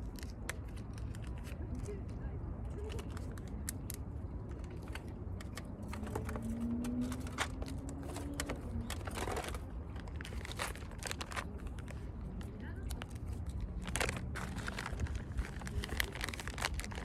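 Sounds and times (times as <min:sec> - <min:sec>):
light clicks and crinkling: 0:00.0 - 0:17.0.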